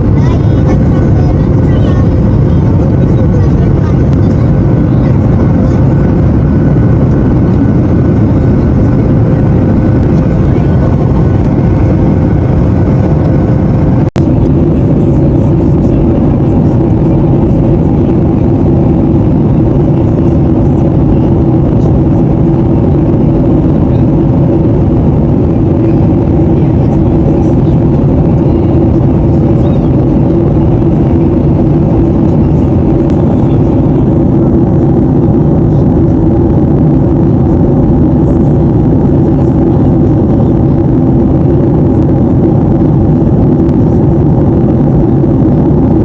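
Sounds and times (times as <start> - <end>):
jet engine cabin roar: 0.0 - 46.0.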